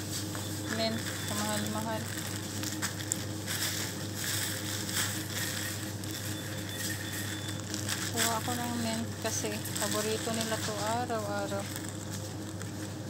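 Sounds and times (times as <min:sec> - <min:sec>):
steady low hum: 0:00.0 - 0:13.0
plastic bags crinkling: 0:00.6 - 0:13.0.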